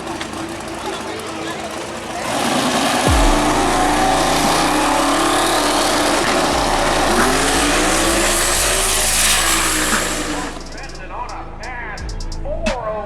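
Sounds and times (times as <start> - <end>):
drag car engine at full throttle: 0.0 - 12.4.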